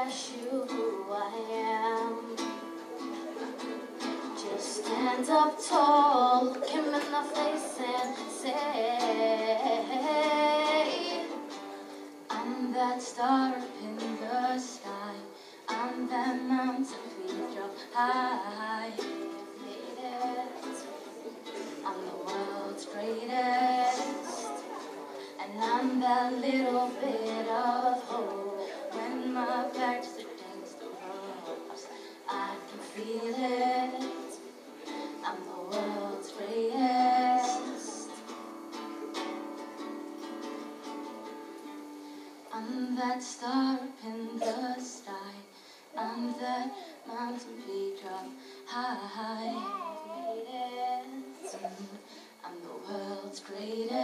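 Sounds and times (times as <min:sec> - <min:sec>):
girl singing into microphone: 0:00.0 - 0:02.7, 0:04.2 - 0:38.4, 0:42.5 - 0:54.0
strummed acoustic guitar: 0:00.0 - 0:49.8.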